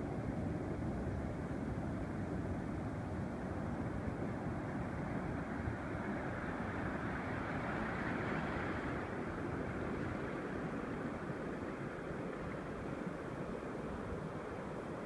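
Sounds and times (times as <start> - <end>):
ocean surf washing on sand: 0.0 - 15.0.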